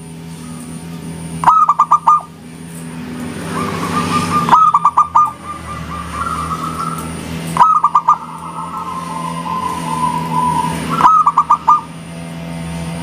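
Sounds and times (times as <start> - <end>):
steady low hum: 0.0 - 13.0
doves cooing: 0.3 - 2.6, 3.2 - 12.5.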